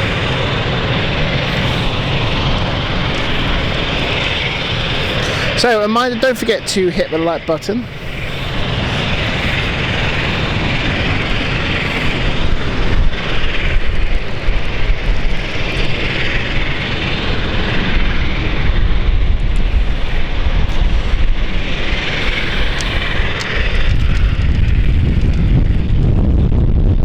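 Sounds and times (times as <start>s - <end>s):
airliner engine hiss: 0.0s - 26.2s
wind buffeting microphone: 0.0s - 27.0s.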